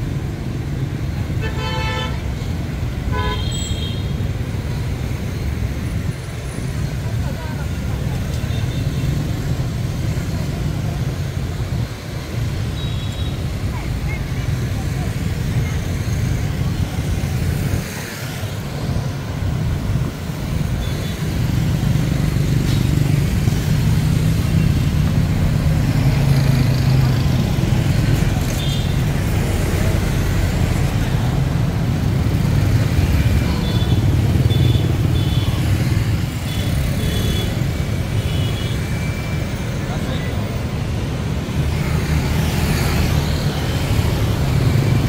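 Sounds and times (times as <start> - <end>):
motorbikes and cars passing: 0.0 - 45.0.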